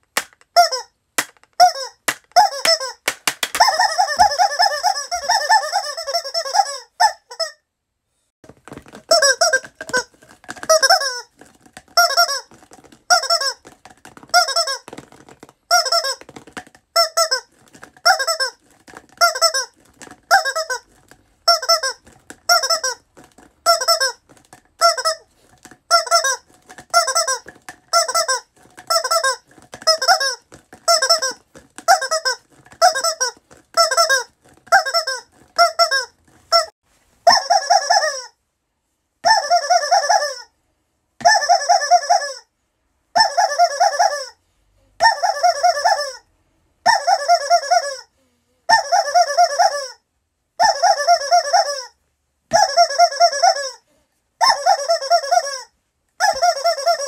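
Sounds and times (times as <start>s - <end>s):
squeaky rubber toy squeezed: 0.2s - 7.7s, 8.8s - 38.4s, 39.2s - 40.6s, 41.2s - 42.5s, 43.1s - 44.4s, 45.0s - 57.0s.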